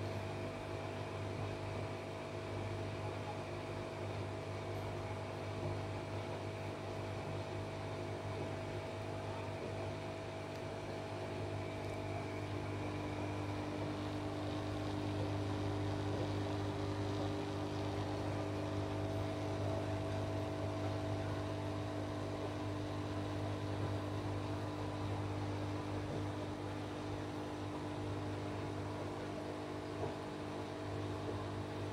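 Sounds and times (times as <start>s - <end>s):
aquarium pump humming: 0.0s - 31.9s.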